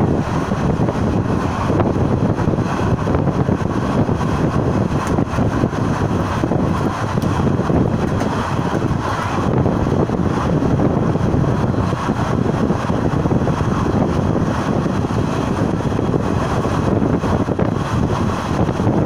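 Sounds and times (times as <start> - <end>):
train wheels rumbling on rail: 0.0 - 19.0
wind on microphone: 0.0 - 19.0.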